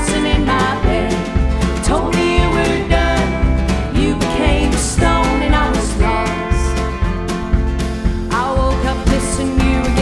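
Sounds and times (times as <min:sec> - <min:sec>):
acoustic guitar: 0:00.0 - 0:10.0
drums: 0:00.0 - 0:10.0
upright bass: 0:00.0 - 0:10.0.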